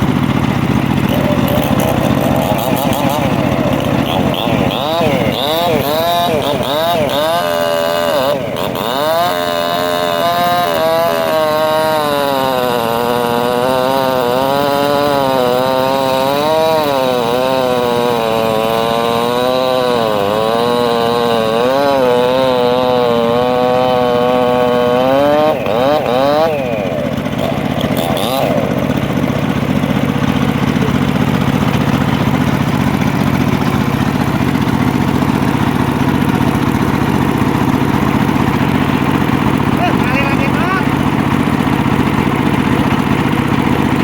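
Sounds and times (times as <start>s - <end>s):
circular sawmill cutting log: 0.0s - 44.0s.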